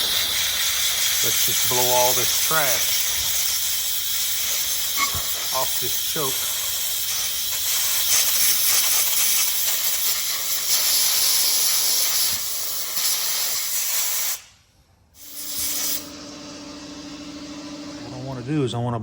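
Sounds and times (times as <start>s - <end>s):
compressed air hissing from blow gun: 0.0s - 14.6s, 15.2s - 16.1s.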